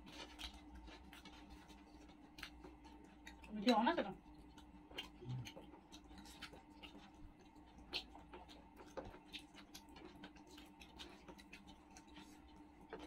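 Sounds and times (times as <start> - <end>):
clicks and taps of eating: 0.0 - 13.0.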